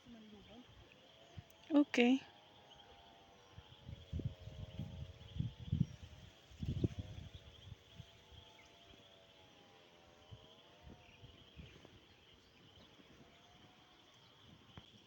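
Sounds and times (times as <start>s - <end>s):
faint wavering drone: 0.0s - 15.0s
insects buzzing: 0.0s - 15.0s.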